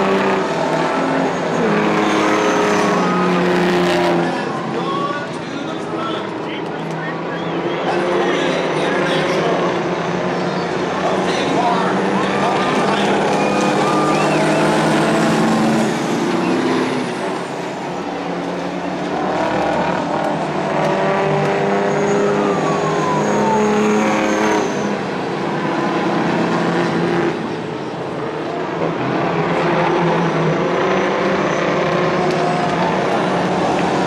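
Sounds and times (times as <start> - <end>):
truck diesel engines racing: 0.0 - 34.0.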